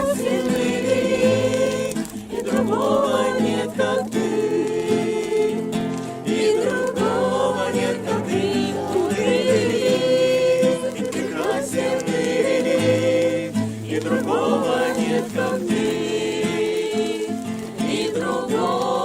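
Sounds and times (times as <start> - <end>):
group singing worship song: 0.0 - 19.0.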